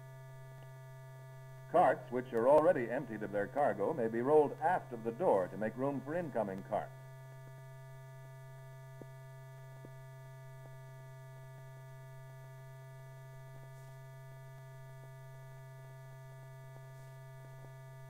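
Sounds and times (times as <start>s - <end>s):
mains hum with higher tones: 0.0s - 18.0s.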